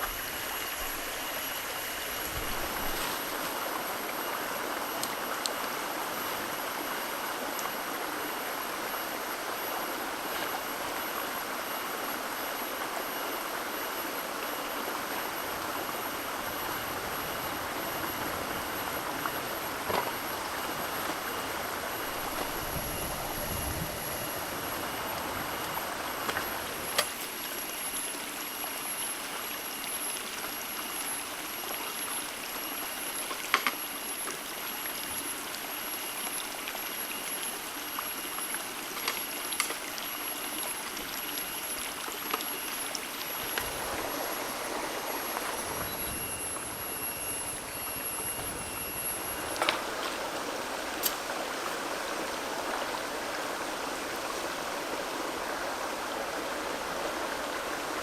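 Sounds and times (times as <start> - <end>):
high-pitched whine: 0.0 - 58.0
running water: 0.0 - 58.0.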